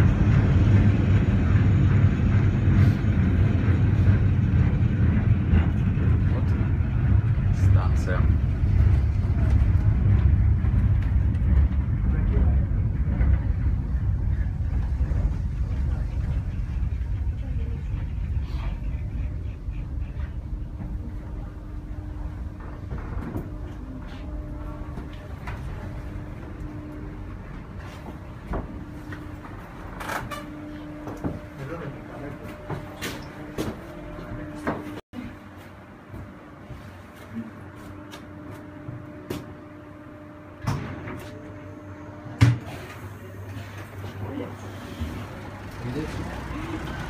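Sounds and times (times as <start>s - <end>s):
funicular car rumbling: 0.0s - 35.0s, 38.0s - 47.0s
steady low hum: 0.0s - 47.0s.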